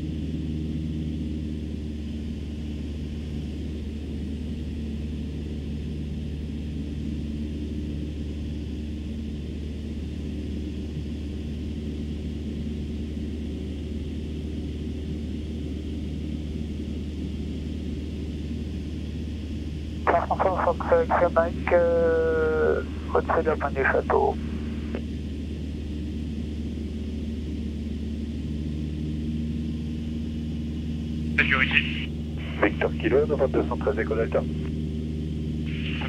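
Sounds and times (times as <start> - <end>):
plane engine and propeller droning: 0.0 - 36.0.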